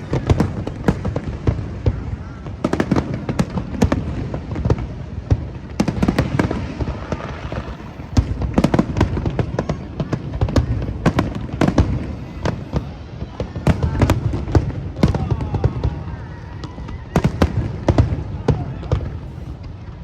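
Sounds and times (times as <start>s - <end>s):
fireworks bursts and crackling: 0.0s - 20.0s.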